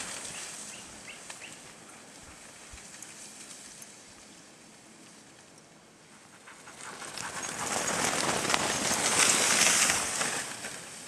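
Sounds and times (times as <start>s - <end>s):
dog sled moving on snow: 0.0s - 11.0s.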